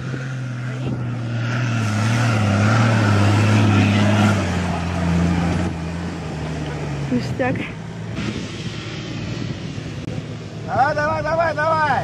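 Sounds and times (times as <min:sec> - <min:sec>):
tyres churning sand: 0:00.0 - 0:12.0.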